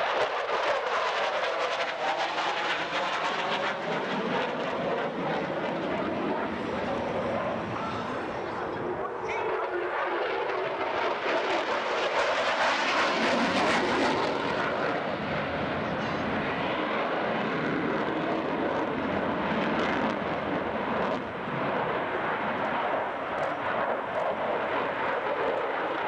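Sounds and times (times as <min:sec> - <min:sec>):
fighter jet roar: 0:00.0 - 0:26.0.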